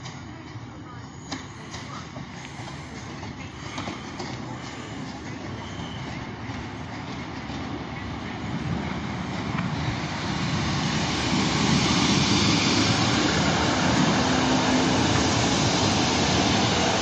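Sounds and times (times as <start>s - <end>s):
train engine and wheels rumbling: 0.0s - 17.0s.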